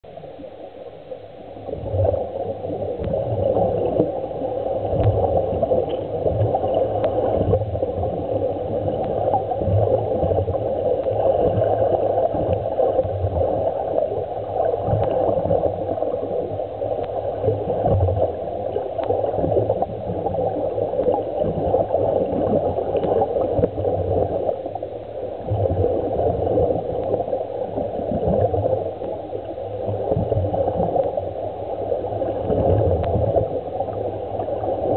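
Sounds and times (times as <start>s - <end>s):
underwater air bubbling: 0.0s - 34.9s.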